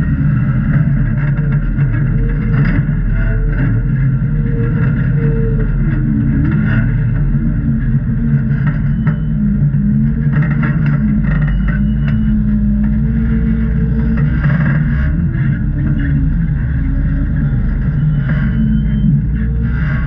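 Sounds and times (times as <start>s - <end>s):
off-road vehicle engine: 0.0s - 20.0s.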